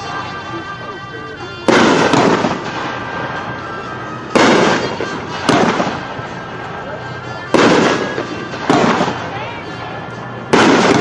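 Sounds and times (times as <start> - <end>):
firework bangs: 1.6 - 11.0.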